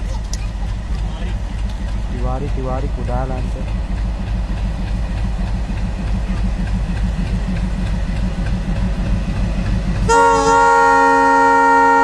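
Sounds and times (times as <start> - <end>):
diesel locomotive engine rumbling: 0.0 - 12.0.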